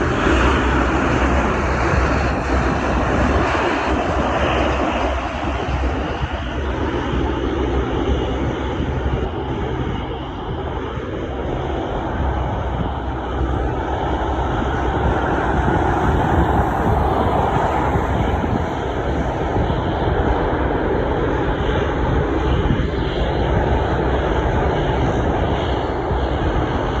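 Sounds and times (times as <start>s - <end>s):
jet airliner engine rumble: 0.0s - 27.0s.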